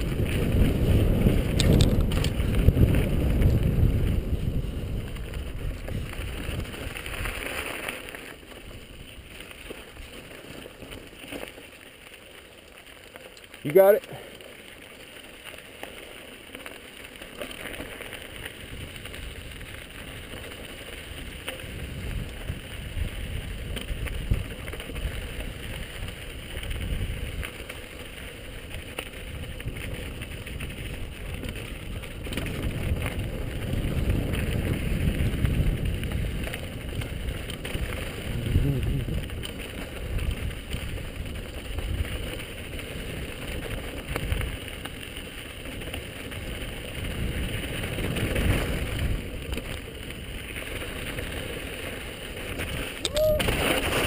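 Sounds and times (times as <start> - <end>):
wind rumble on microphone: 0.0 - 11.0, 17.7 - 54.0
bike clicks and rattles: 0.0 - 54.0
bike tyres crunching over gravel: 0.0 - 54.0.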